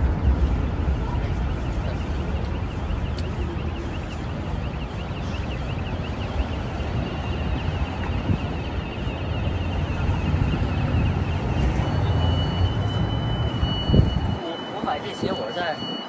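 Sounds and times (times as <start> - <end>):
high repeated chirps: 0.0 - 16.0
low traffic rumble: 0.0 - 16.0.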